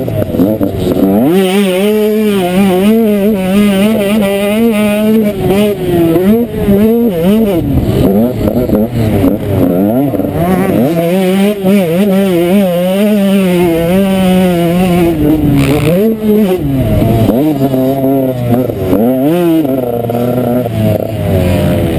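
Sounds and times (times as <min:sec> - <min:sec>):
motorbike engine revving: 0:00.0 - 0:21.9.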